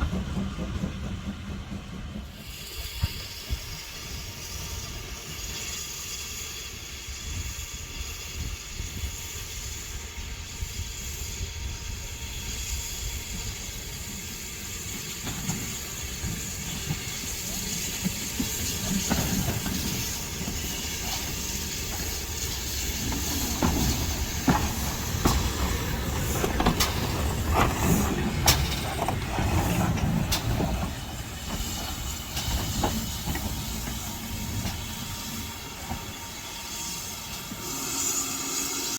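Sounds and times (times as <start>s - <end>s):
train rumble: 0.0s - 38.9s
hiss of steam: 0.1s - 38.9s.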